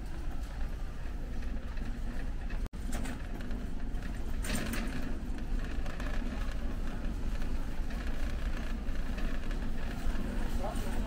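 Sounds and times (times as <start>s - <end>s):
faint clicks and clatter: 0.0s - 11.0s
low rumble and hum of store: 0.0s - 11.0s.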